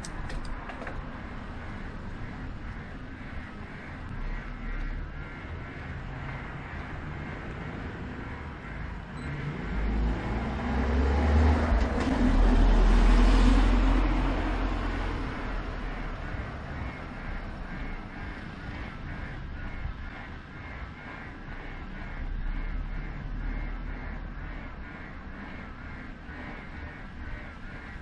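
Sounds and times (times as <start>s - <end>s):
motor vehicle passing by: 1.2s - 28.0s.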